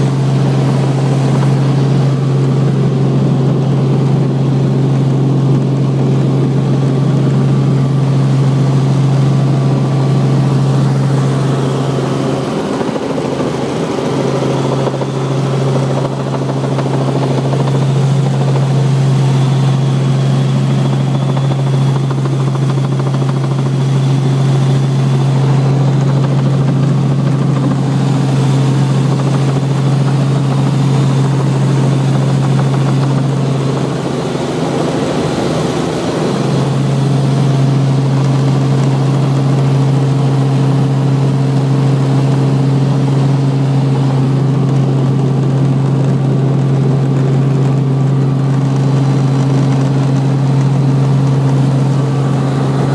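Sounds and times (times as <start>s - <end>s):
helicopter engine and rotor: 0.0s - 52.9s.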